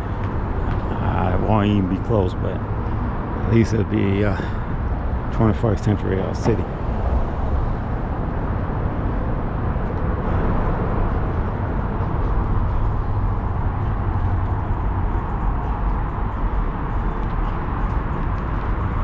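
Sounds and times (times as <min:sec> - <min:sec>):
car road noise rumble: 0:00.0 - 0:19.0.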